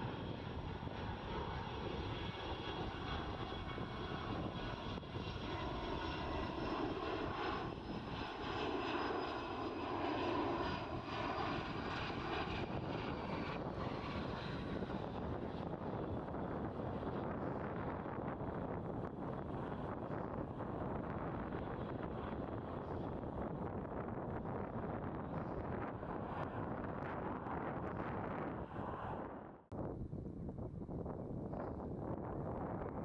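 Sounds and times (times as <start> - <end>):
jet plane passing: 0.0 - 29.6.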